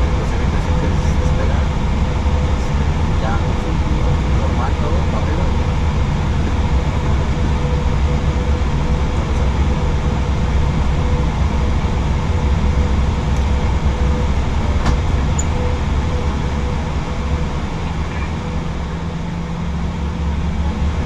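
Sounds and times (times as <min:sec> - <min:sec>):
air-conditioning rumble: 0:00.0 - 0:21.0.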